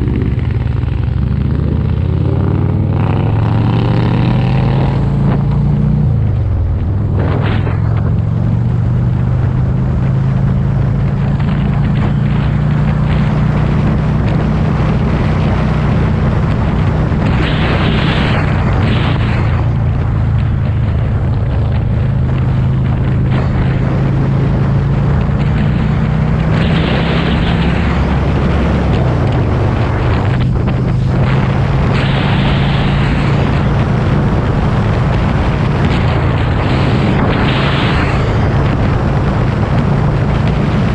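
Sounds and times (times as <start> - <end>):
motorcycle engine droning: 0.0 - 40.9
wind rushing over microphone: 0.0 - 40.9.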